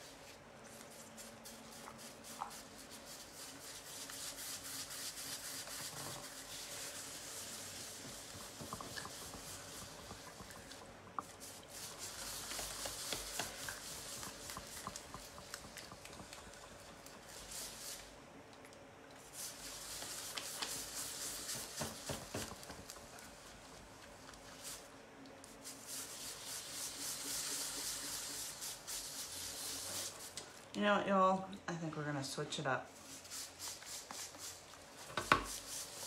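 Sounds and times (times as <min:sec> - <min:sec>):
hands rubbing wet clay: 0:00.0 - 0:18.2, 0:19.2 - 0:30.7, 0:33.0 - 0:36.0
pottery wheel hum: 0:00.0 - 0:36.0.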